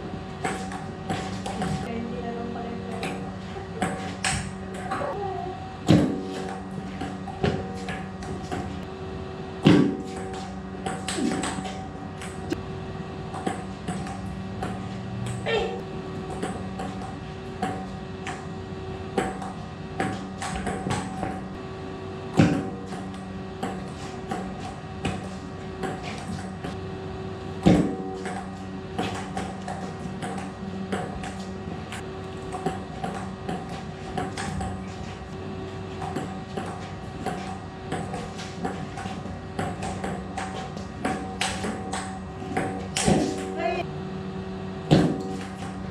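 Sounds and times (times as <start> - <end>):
steady hum: 0.0 - 45.9.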